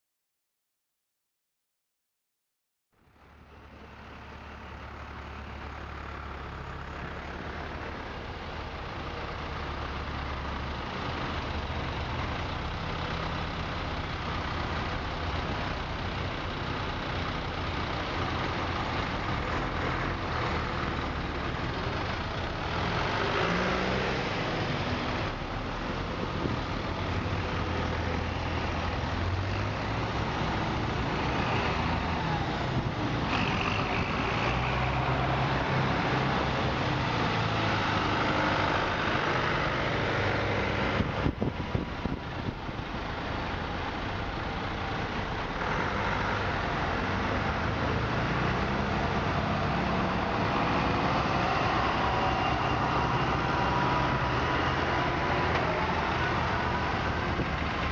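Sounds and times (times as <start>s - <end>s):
tractor engines droning: 3.0s - 57.9s.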